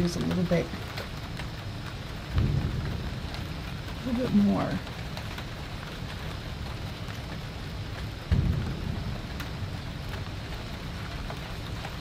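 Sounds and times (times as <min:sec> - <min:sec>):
heavy rain pouring: 0:00.0 - 0:12.0
low rumble of thunder: 0:00.0 - 0:12.0.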